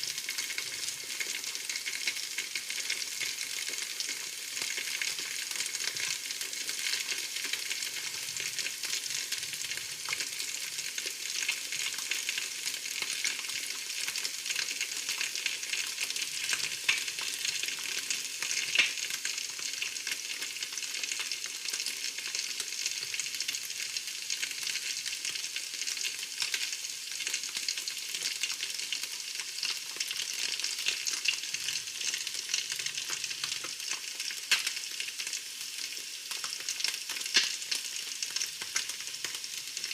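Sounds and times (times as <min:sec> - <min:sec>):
food frying in hot oil: 0:00.0 - 0:39.9.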